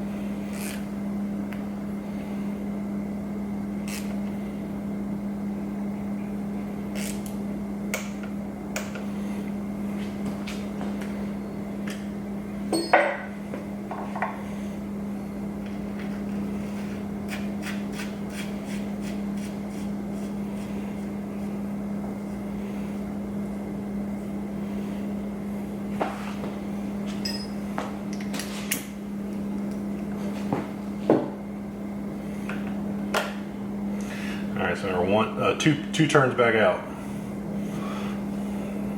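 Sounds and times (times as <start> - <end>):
steady background hum: 0.0 - 38.9.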